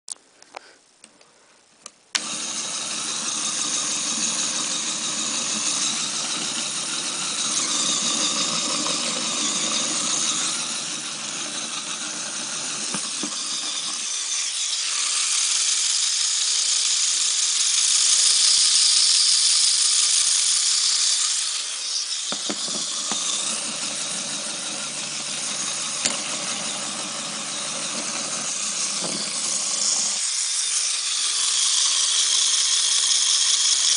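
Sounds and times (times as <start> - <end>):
electric motor whirring: 2.2 - 33.9.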